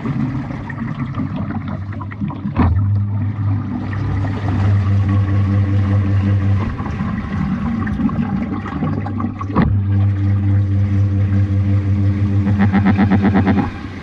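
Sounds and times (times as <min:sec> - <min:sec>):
water churning and sloshing: 0:00.0 - 0:14.0
washing machine motor hum: 0:02.7 - 0:14.0.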